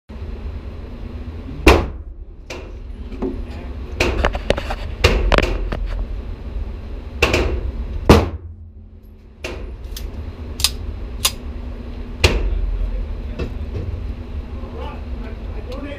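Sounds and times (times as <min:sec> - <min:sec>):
steady low rumble: 0:00.1 - 0:15.9.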